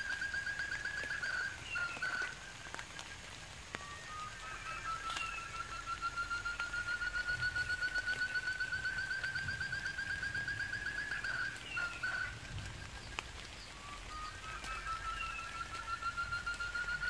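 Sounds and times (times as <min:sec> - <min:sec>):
quail pulsed whistle call: 0:00.0 - 0:17.0.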